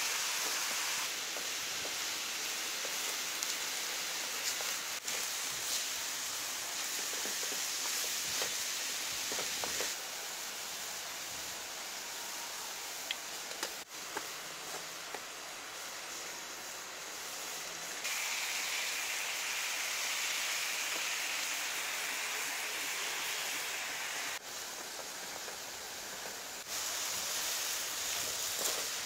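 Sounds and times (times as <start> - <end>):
mushroom filling sizzling in pan: 0.0 - 29.0.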